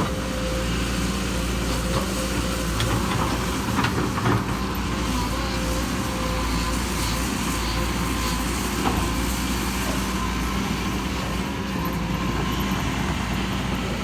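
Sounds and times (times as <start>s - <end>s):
heavy diesel engine droning: 0.0s - 14.0s.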